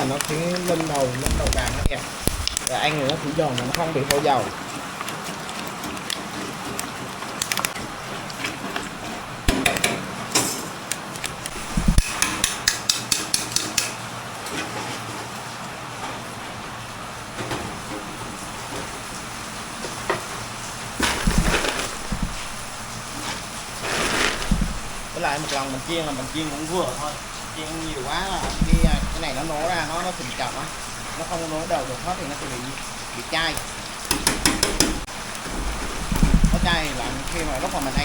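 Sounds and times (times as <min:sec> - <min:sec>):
frying in hot oil sizzling: 0:00.0 - 0:38.0.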